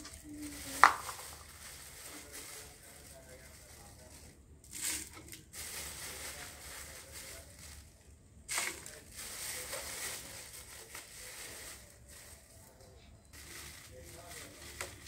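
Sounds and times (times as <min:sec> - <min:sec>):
plastic crinkling and crackling: 0:00.0 - 0:15.0.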